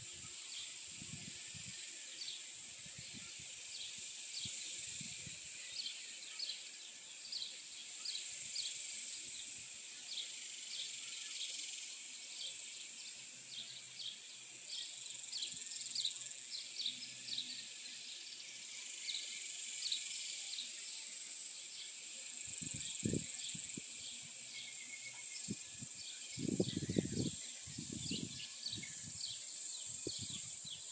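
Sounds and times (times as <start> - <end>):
insect chorus buzzing and chirping: 0.0 - 30.9.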